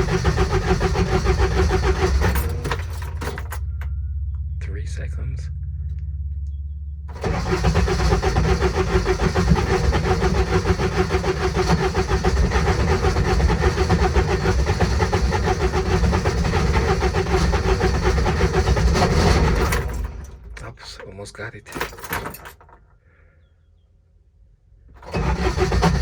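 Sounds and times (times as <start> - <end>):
diesel engine cranking: 0.0 - 5.0, 7.1 - 23.2, 24.9 - 26.0.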